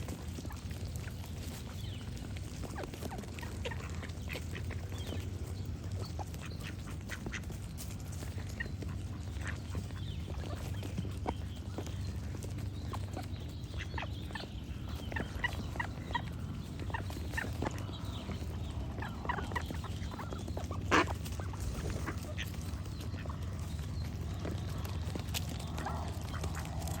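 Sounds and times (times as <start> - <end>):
ducks quacking: 0.0 - 27.0
low background hum: 0.0 - 27.0
small birds chirping: 0.0 - 27.0.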